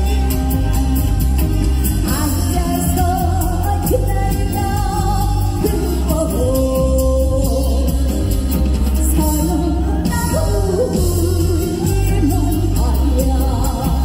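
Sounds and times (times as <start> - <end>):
backing band with beat and bass: 0.0 - 14.0.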